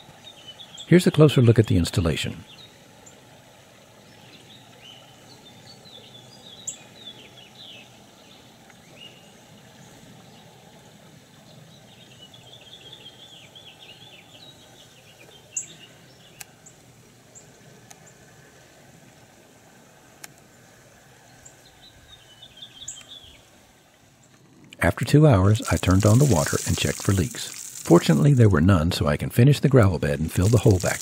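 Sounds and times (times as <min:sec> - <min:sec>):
small birds twittering: 0:00.0 - 0:03.2, 0:03.8 - 0:18.7, 0:20.4 - 0:28.8.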